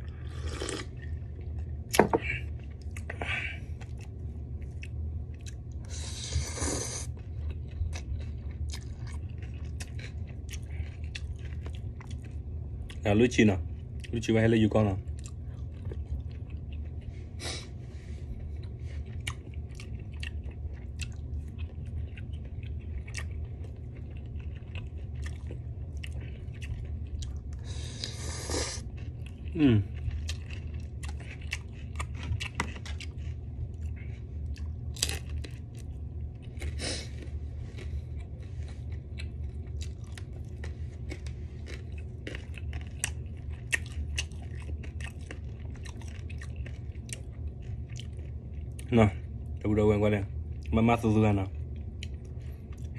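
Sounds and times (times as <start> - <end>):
person chewing food: 0.0 - 13.0, 13.7 - 14.2, 15.0 - 49.6, 51.5 - 52.9
steady low hum: 0.0 - 52.9.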